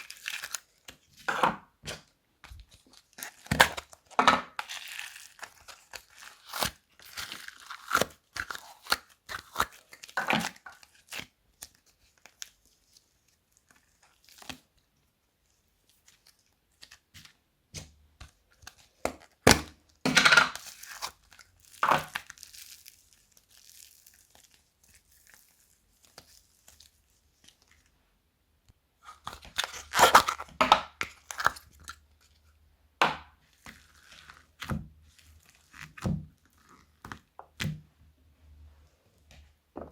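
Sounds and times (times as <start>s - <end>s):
slime and plastic bags crinkling: 0.0s - 28.0s, 29.0s - 37.9s.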